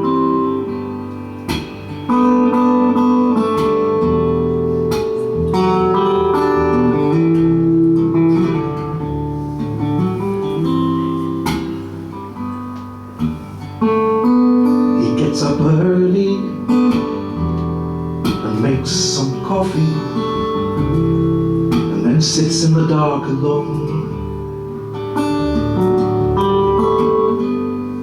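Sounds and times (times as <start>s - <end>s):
acoustic guitar chords ringing: 0.0s - 28.0s.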